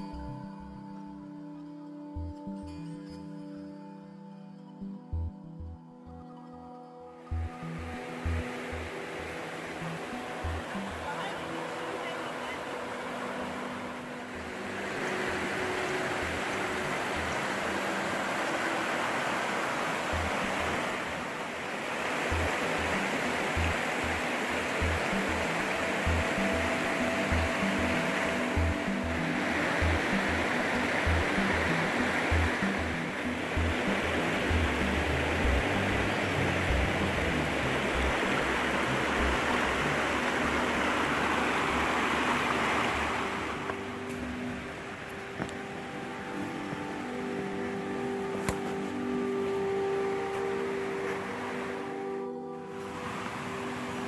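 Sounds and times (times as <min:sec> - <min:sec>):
water rushing over rocks: 0:07.3 - 0:52.1, 0:52.7 - 0:54.0.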